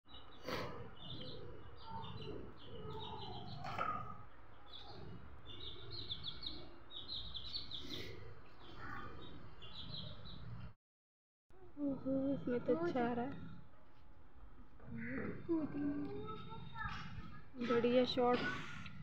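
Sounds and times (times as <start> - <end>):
birds chirping: 0.1 - 10.8, 11.6 - 19.0.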